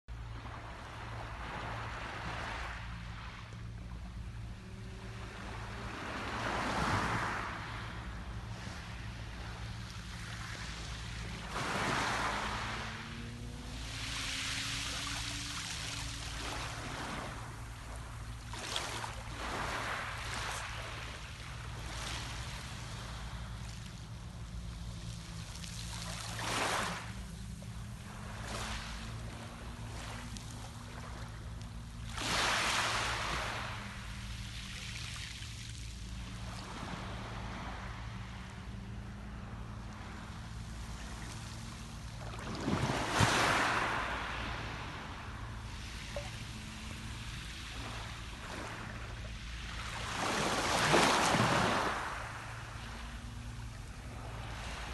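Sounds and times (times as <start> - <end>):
low wavering hum: 0.1 - 54.9
sea waves washing in: 0.1 - 54.9.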